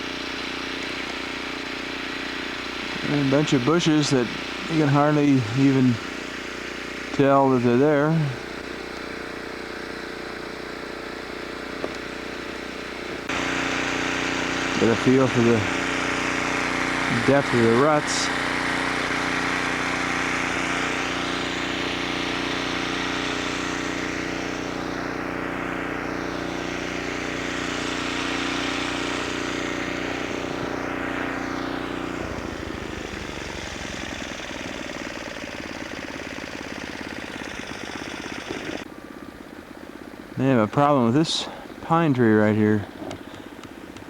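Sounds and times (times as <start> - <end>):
engine running: 0.0 - 44.0.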